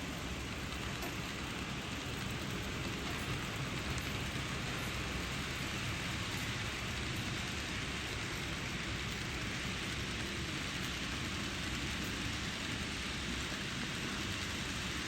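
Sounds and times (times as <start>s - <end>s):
model train rolling on track: 0.0s - 15.0s.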